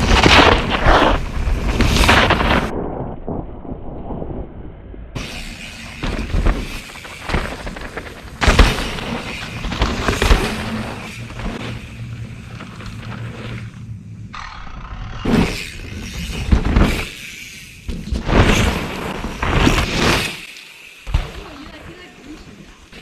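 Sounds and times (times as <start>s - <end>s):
bike thumps and skids: 0.0s - 2.7s, 5.2s - 13.9s, 15.2s - 23.0s
bike tyres rumbling on dirt: 0.0s - 23.0s.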